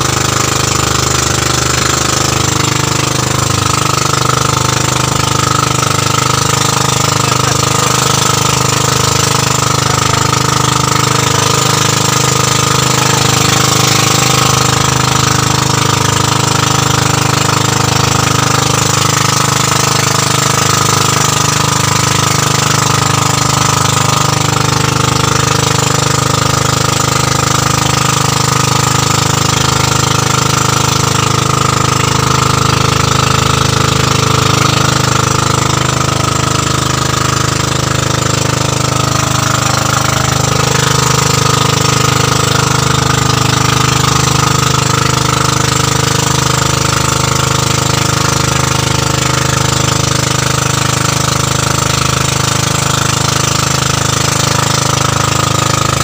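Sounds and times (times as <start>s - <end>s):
boat engine chugging: 0.0s - 56.0s.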